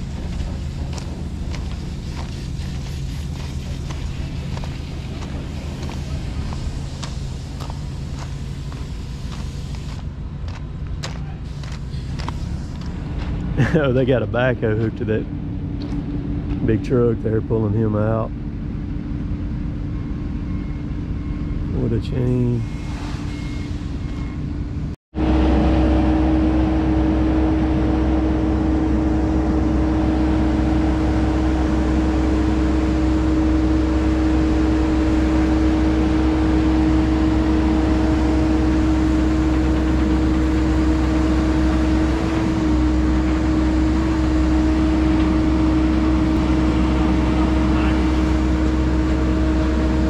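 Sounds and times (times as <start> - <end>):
diesel engine running with whine: 0.0 - 50.0.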